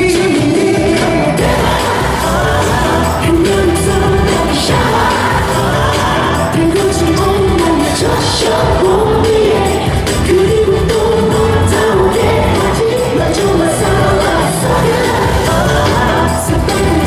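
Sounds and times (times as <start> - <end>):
man singing lead vocal: 0.0 - 17.0
pop backing track with beat: 0.0 - 17.0.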